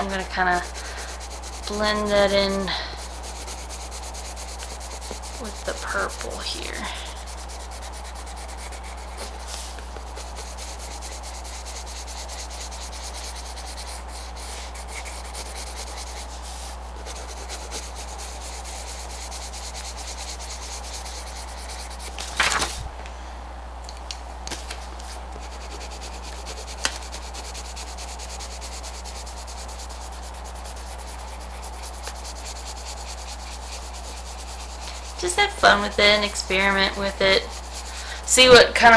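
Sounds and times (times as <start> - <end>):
colored pencil scratching on paper: 0.0 - 22.2, 25.4 - 38.9.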